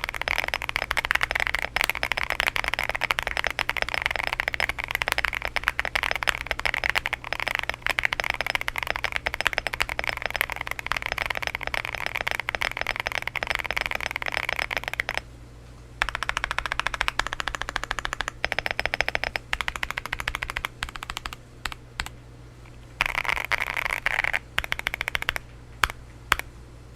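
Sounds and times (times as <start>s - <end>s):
mechanical keyboard typing: 0.0s - 15.2s, 16.0s - 22.2s, 23.0s - 26.5s.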